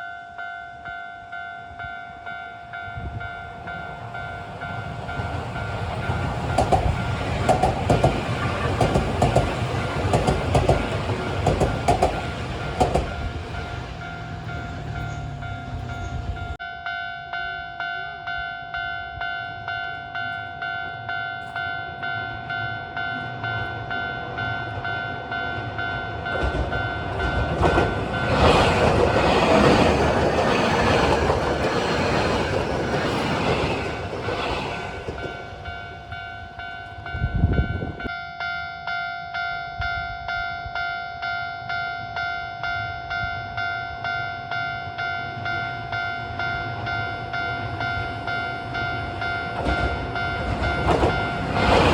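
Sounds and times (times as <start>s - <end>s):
electric train passing: 0.0s - 51.9s
level crossing warning bell: 0.0s - 51.9s.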